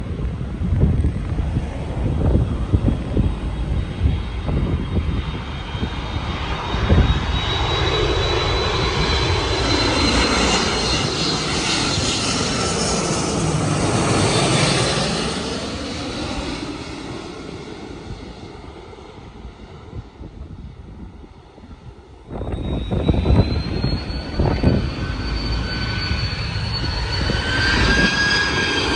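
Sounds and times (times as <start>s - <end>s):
airliner jet engine noise: 0.0s - 28.9s
wind buffeting microphone: 0.0s - 28.9s.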